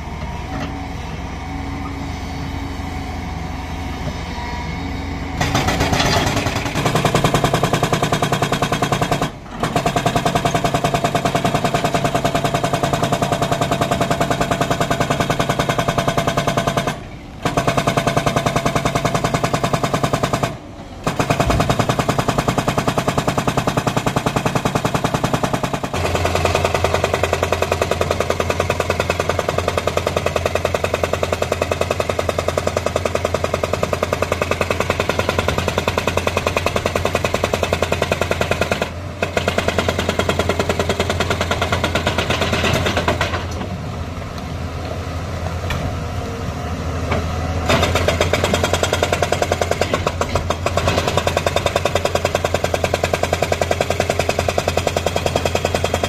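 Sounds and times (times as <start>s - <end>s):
hydraulic breaker hammering rock: 5.4s - 43.7s, 47.6s - 56.0s.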